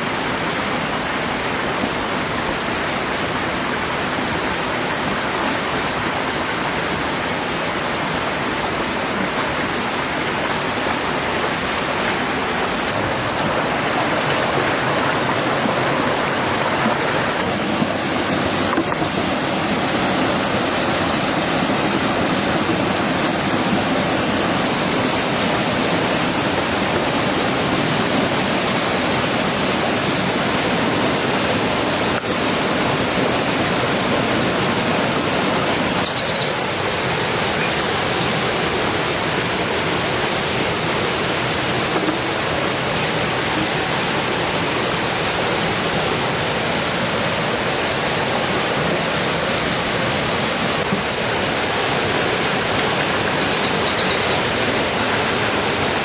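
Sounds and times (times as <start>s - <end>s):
heavy rain hissing: 5.0s - 56.0s.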